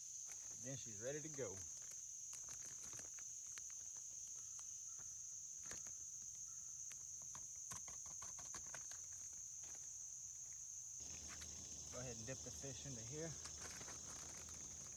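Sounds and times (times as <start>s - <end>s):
insects chorus: 0.0s - 14.9s.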